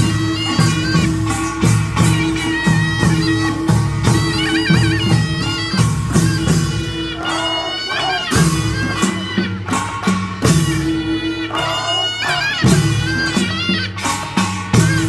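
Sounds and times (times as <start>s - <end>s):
drums and gongs beating: 0.0s - 15.0s
shrill double-reed melody: 0.0s - 15.0s.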